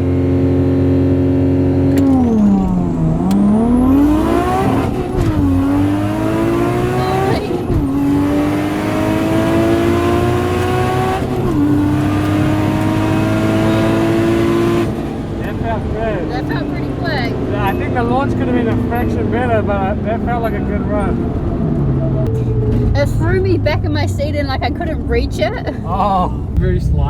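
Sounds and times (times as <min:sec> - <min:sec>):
car engine revving and shifting: 0:00.0 - 0:25.7.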